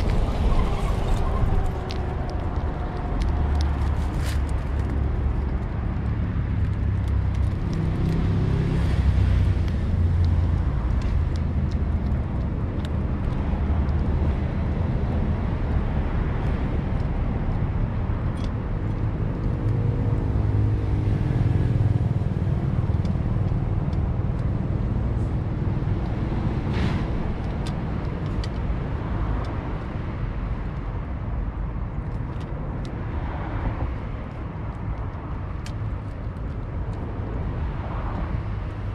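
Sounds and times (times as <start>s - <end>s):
passing vehicle engine hum: 0.0s - 31.4s
low rumble of road traffic: 0.0s - 38.9s.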